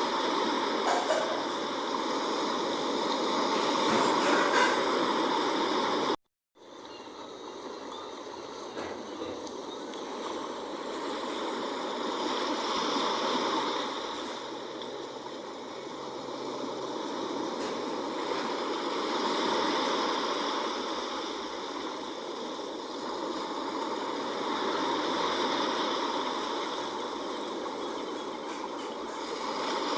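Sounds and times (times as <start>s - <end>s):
sea waves washing on shore: 0.0s - 29.9s.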